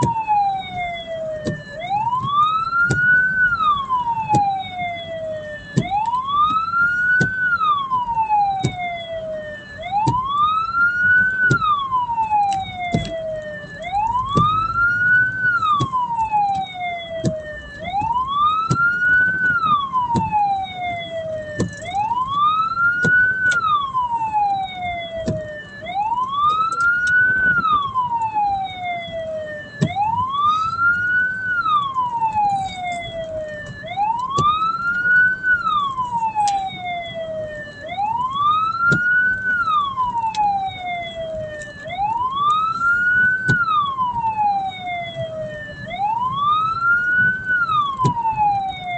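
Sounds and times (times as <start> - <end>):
low vehicle noise: 0.0 - 48.9
siren wailing: 0.0 - 48.9.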